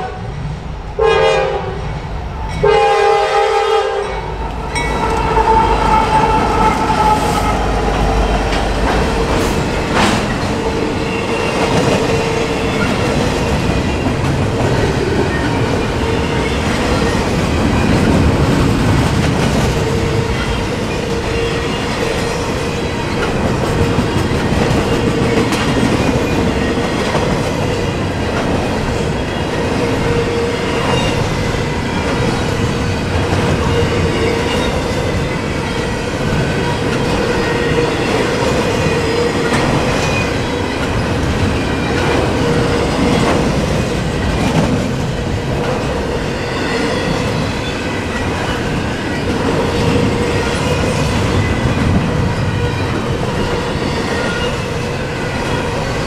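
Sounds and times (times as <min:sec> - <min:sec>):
train wheels rumbling and clattering: 0:01.8 - 0:56.0.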